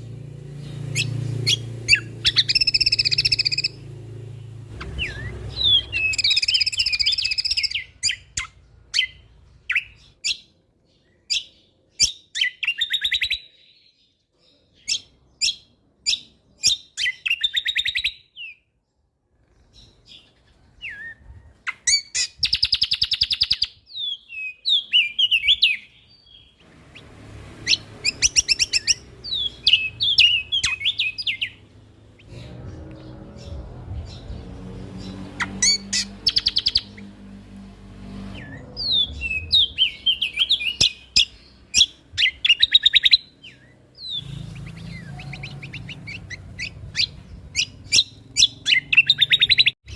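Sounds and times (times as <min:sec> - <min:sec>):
songbird trilling and chirping: 0:00.5 - 0:18.6, 0:19.4 - 0:37.3, 0:38.3 - 0:49.9.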